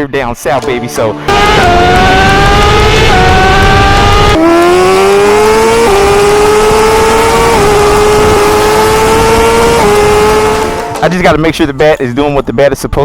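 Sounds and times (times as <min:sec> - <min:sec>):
motorcycle engine accelerating: 0:00.6 - 0:11.5.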